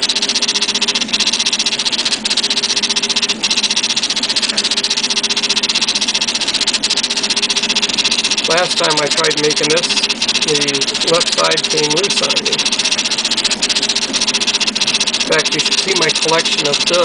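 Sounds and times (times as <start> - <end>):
stepper motors buzzing: 0.0 - 17.0.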